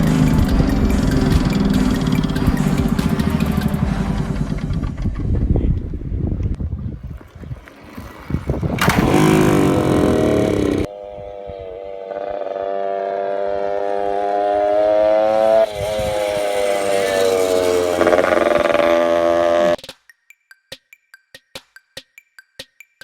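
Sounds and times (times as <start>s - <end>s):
pit bike engine revving: 0.0s - 5.6s, 7.0s - 19.8s.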